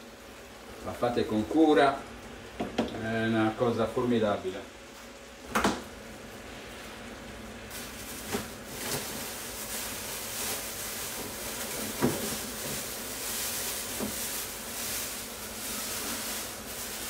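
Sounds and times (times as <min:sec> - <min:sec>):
gas flame hissing: 0:00.0 - 0:17.0.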